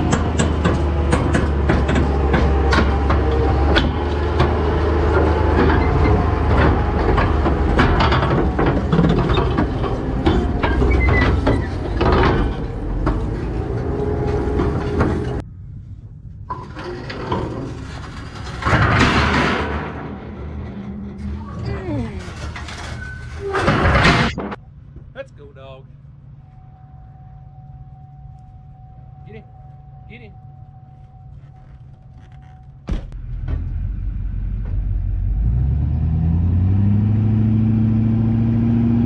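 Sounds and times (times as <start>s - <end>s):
tracks clanking and rattling: 0.0s - 35.9s
tracked vehicle engine rumble: 0.0s - 39.0s.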